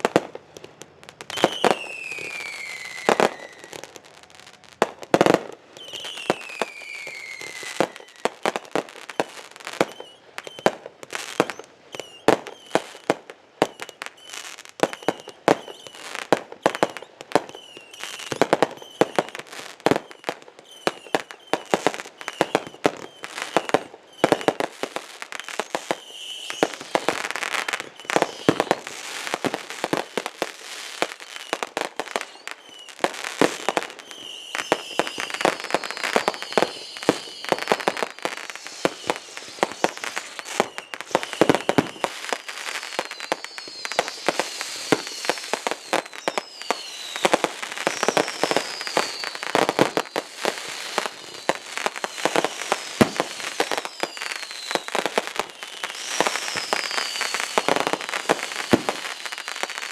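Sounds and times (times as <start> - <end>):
falling firework whistles: 0.0 - 59.9
fireworks crackling and popping: 0.0 - 59.9.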